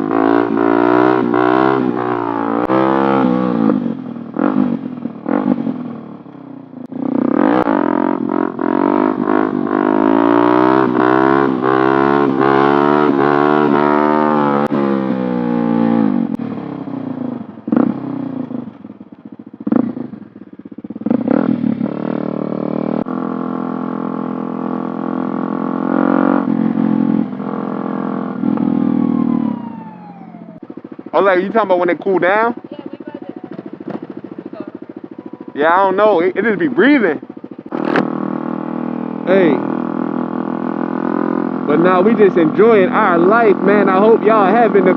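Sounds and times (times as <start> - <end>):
small motorcycle engine revving: 0.0 - 6.0, 6.8 - 18.7, 19.5 - 44.9.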